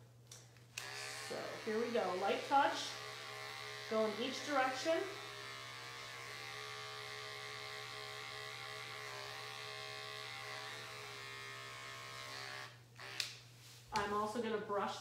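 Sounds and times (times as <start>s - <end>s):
electric dog clipper humming: 0.8s - 13.4s.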